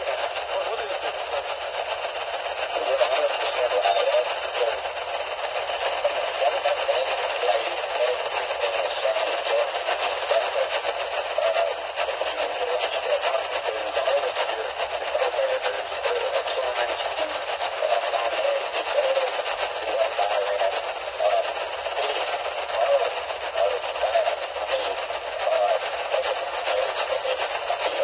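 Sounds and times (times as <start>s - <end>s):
muffled tinny broadcast sound: 0.0s - 28.0s
radio hiss and crackle: 0.0s - 28.0s.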